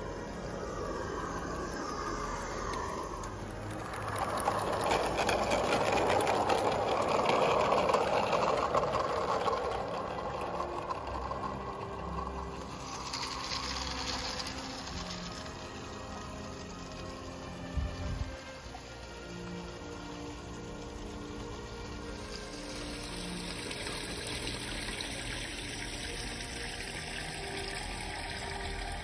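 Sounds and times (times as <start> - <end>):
model steam train clattering: 0.0 - 29.0.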